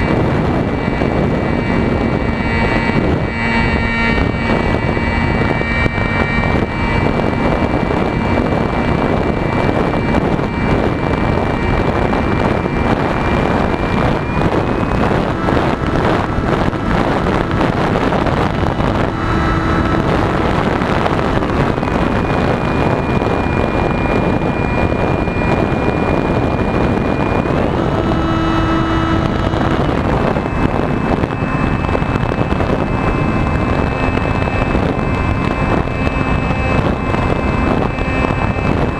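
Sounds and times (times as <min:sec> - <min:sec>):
model plane motor whine: 0:00.0 - 0:38.9
wind rush on microphone: 0:00.0 - 0:38.9.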